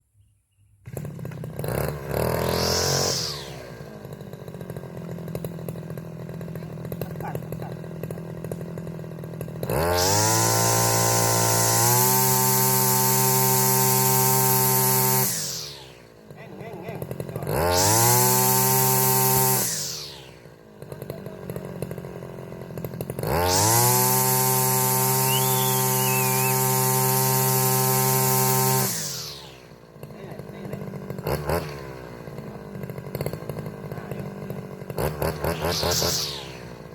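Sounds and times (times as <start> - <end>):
brush cutter engine revving: 0.8 - 36.9.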